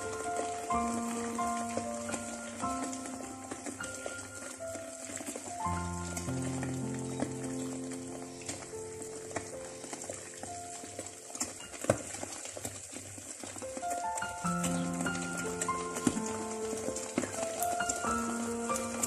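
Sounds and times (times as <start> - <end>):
background music with held notes: 0.0 - 12.6, 13.2 - 19.0
eggs sizzling in a pan: 0.0 - 19.0.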